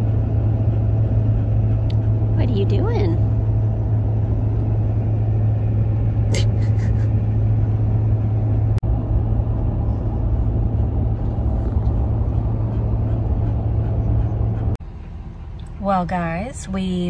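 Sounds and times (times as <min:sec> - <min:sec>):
truck cab road drone: 0:00.0 - 0:17.0.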